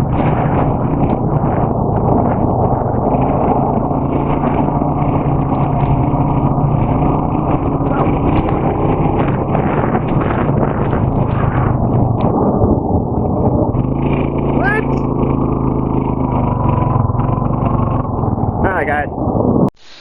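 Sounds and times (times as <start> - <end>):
atv engine running: 0.0 - 19.5.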